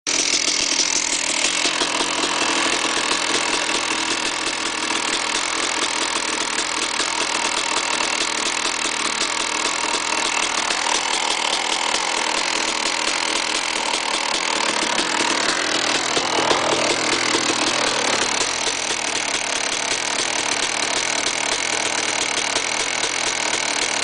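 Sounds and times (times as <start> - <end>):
two-stroke engine idling with ticking: 0.1 - 24.0.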